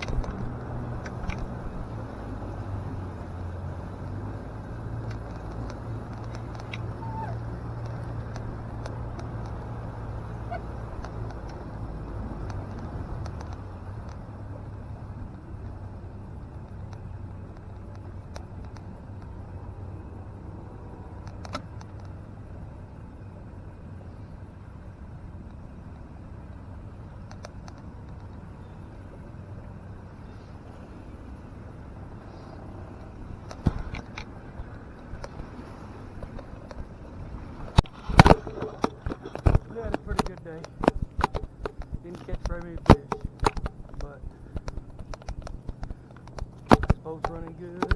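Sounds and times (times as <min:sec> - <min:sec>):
water rushing: 0:00.0 - 0:44.6
outboard motor running: 0:00.0 - 0:47.9.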